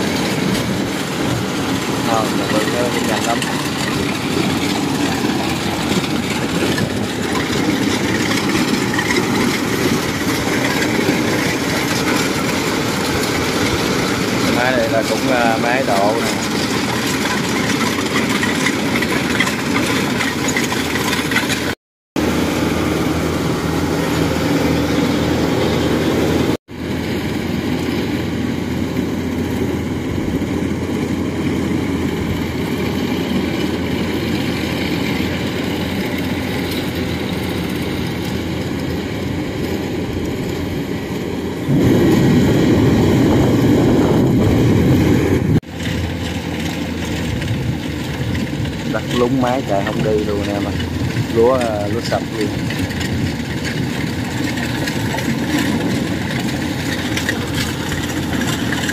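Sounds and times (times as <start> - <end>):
combine harvester running: 0.0 - 58.9
tracked cart engine: 0.0 - 58.9.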